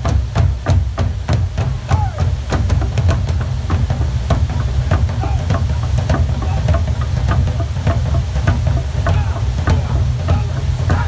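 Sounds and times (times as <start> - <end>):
drums beating quick rhythm: 0.0 - 11.0
heavy low rumble: 0.0 - 11.0.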